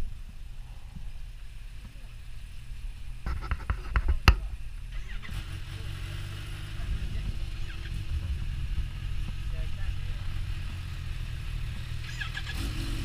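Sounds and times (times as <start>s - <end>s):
motorcycles idling: 0.0s - 13.0s.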